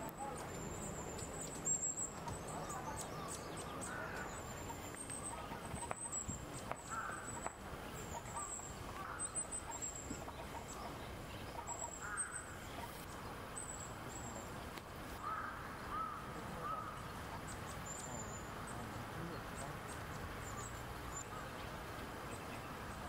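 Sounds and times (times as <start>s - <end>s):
lower arched bird calls: 0.1s - 23.0s.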